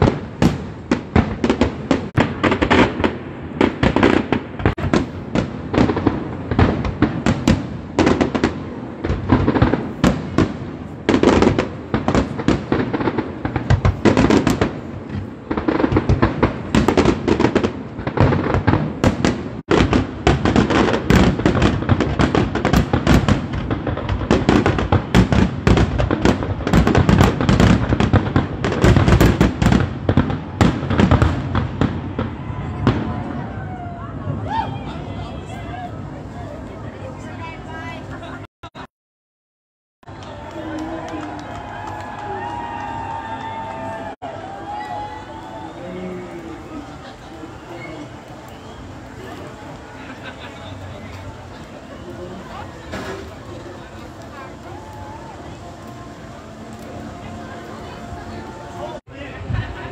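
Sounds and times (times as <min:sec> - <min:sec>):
fireworks bangs: 0:00.0 - 0:37.2, 0:40.0 - 0:59.9.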